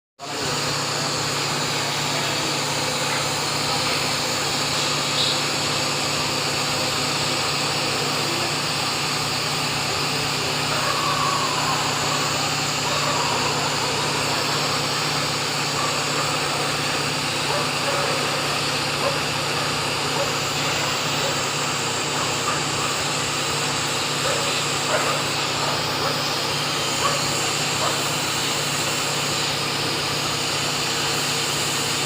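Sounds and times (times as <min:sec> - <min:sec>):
machine humming and hissing: 0:00.2 - 0:32.0.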